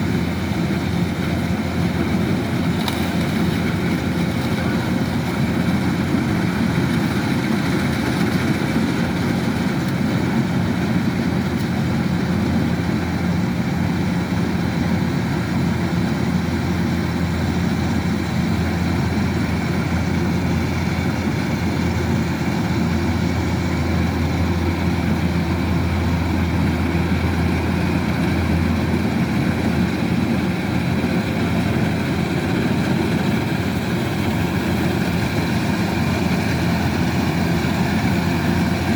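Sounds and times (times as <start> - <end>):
diesel engine low drone: 0.0 - 38.9.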